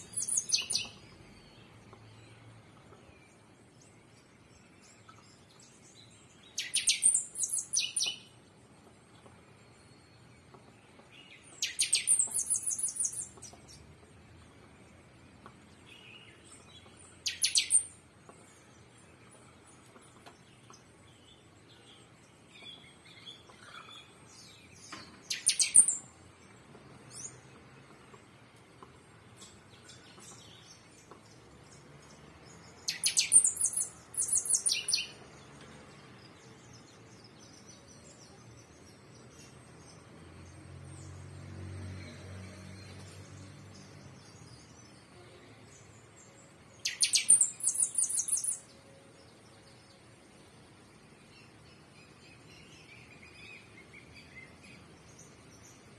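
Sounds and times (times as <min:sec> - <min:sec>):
birds chirping in trills: 0:00.0 - 0:55.9.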